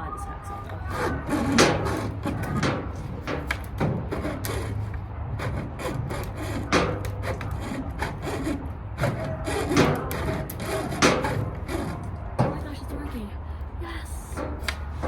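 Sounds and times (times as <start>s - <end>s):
hacksaw cutting pipe: 0.7s - 12.8s.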